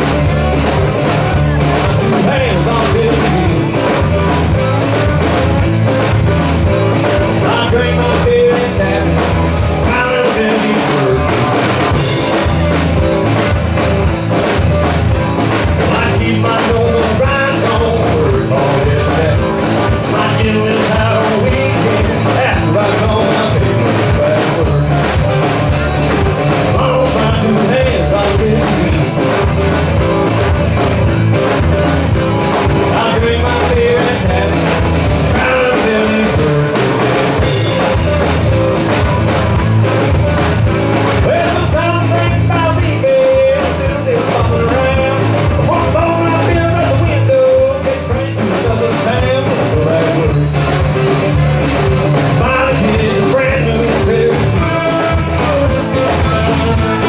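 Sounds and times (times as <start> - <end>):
acoustic guitar: 0.0 - 57.0
bass guitar: 0.0 - 57.0
drum kit: 0.0 - 57.0
electric guitar: 0.0 - 57.0
man singing: 0.0 - 57.0.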